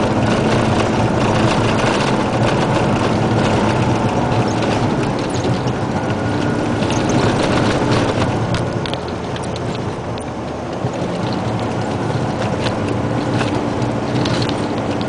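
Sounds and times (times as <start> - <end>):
diesel truck engine running: 0.0 - 15.0
gravel clicking under tyres: 0.0 - 15.0
truck cab rattling: 0.0 - 15.0.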